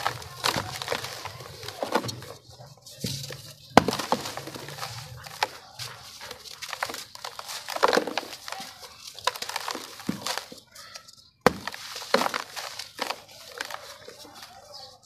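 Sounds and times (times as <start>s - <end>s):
cement lumps crunching by hand: 0.0s - 15.0s.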